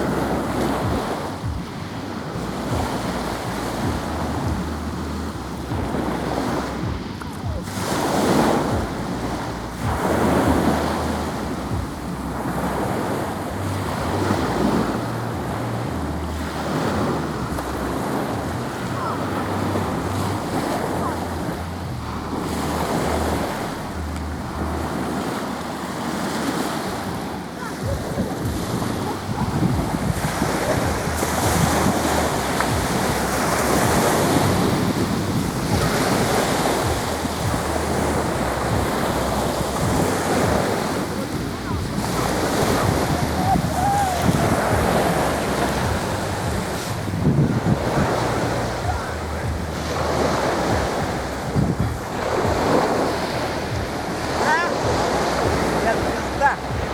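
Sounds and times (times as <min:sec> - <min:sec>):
sea waves breaking: 0:00.0 - 0:56.9
wind buffeting microphone: 0:00.0 - 0:56.9.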